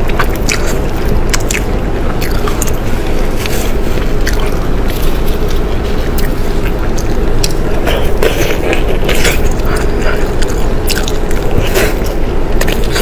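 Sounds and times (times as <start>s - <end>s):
chewing and biting mouth sounds: 0.0s - 13.0s.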